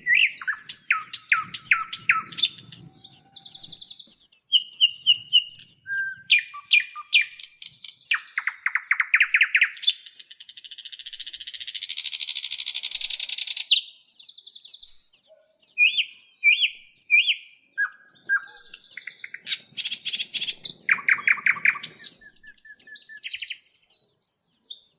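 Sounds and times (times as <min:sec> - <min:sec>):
small birds chirping and trilling: 0:00.0 - 0:24.9.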